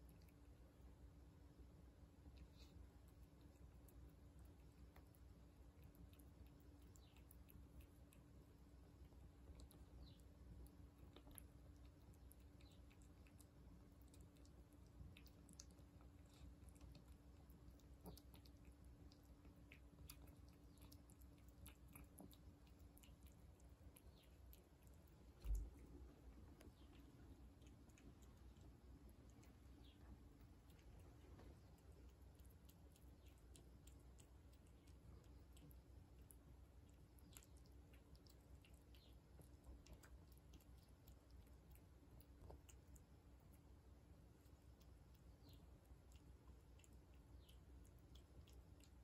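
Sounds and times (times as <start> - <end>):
cat chewing wet food: 0.0 - 49.0.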